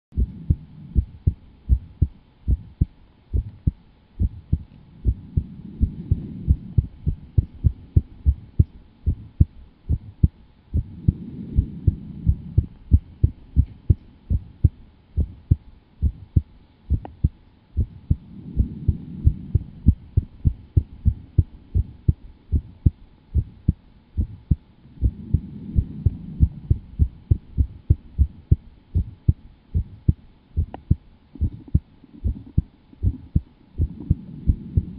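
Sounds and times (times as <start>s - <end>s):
rapid low thumping: 0.1s - 34.9s.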